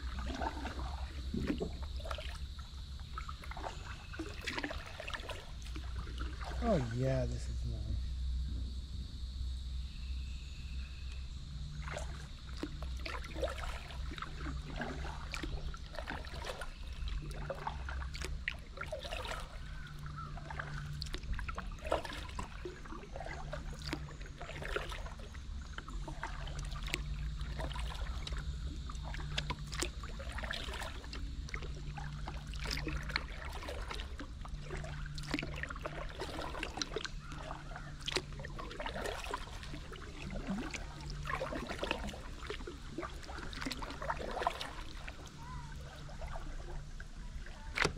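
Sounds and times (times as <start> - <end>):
water dripping and trickling: 0.0 - 7.0, 11.9 - 46.2
paddle splashes: 0.0 - 7.9, 11.7 - 47.9.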